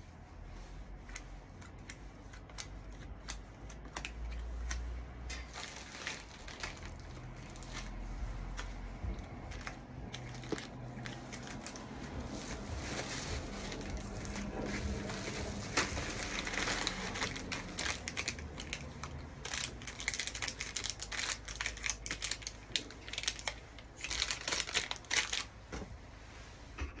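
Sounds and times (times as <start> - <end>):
packing material crinkling: 0.5 - 25.7.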